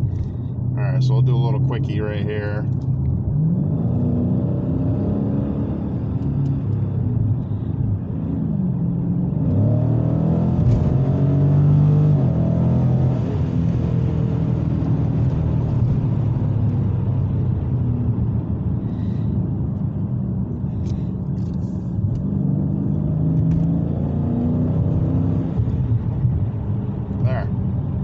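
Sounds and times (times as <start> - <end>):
car engine deep drone: 0.0 - 28.0.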